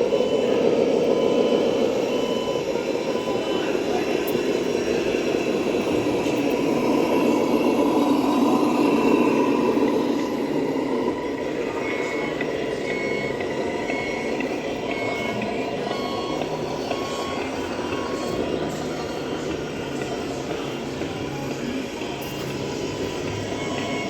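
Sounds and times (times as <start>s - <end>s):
reversing alarm beeping: 0.0s - 24.0s.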